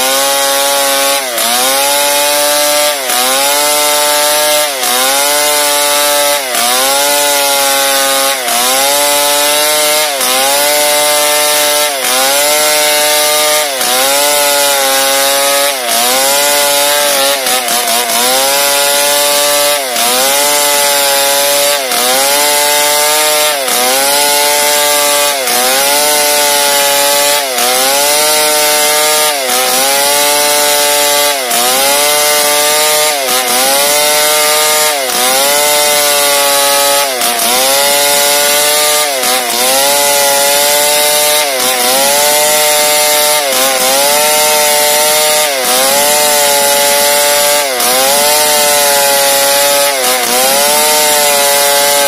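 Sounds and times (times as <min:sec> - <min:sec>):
chainsaw cutting a log: 0:00.0 - 0:52.0.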